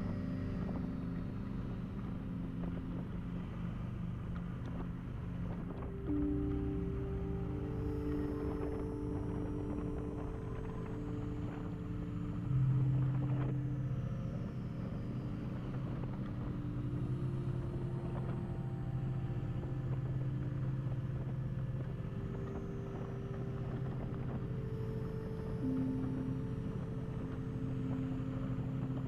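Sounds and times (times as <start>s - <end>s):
road rumble: 0.0s - 29.0s
wind: 0.0s - 29.0s.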